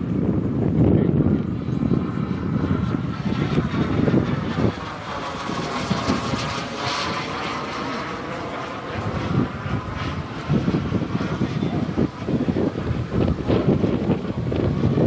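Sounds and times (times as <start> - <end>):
model jet turbine whine: 0.0 - 15.0.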